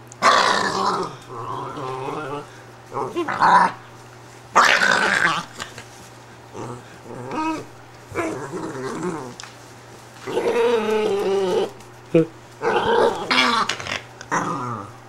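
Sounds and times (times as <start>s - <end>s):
dog growling: 0.2s - 3.9s, 4.5s - 5.9s, 6.5s - 9.5s, 10.2s - 15.0s.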